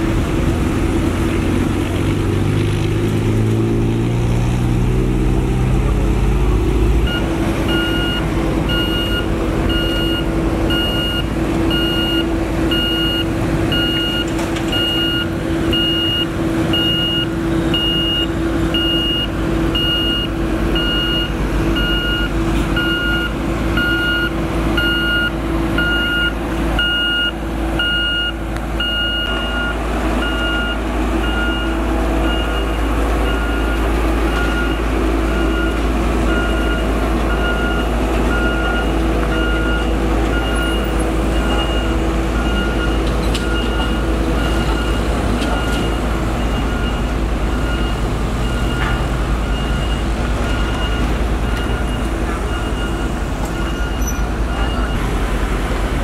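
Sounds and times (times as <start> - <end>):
diesel machinery engine rumbling: 0.0 - 56.0
reversing alarm beeping: 7.0 - 55.1.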